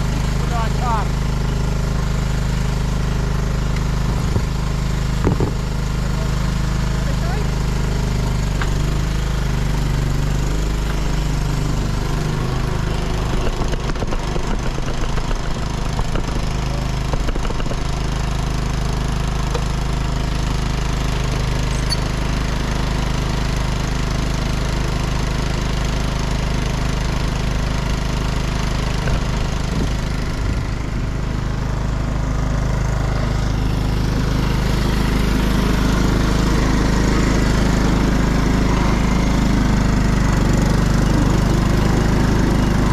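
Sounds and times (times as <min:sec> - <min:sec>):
lawn tractor engine running: 0:00.0 - 0:42.9.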